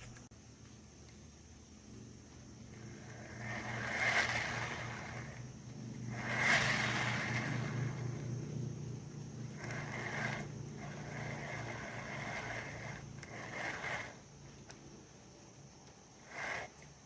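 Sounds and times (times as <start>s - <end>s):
spinning reel whirring: 0.0s - 17.0s.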